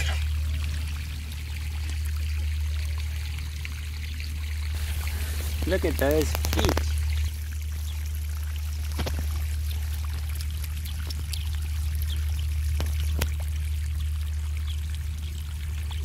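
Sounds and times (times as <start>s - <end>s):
rain: 0.0s - 16.0s
running water: 0.0s - 16.0s
water drips and splashes: 0.0s - 16.0s.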